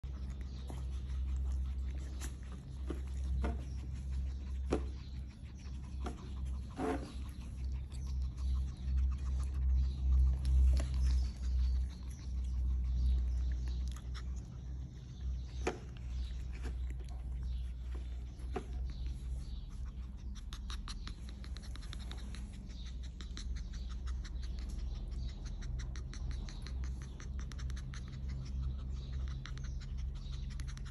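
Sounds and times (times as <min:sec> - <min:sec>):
puppy scratching and licking: 0:00.0 - 0:30.9
steady low hum: 0:00.0 - 0:30.9.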